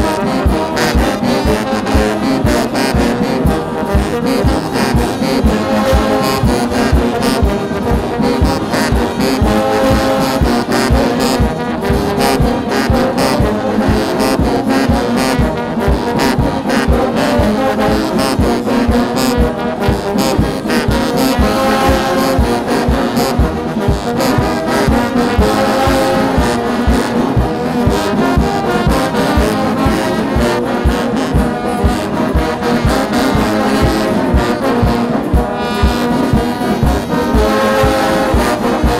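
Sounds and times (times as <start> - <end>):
brass band playing: 0.0 - 38.9
steady drum beat: 0.0 - 38.9.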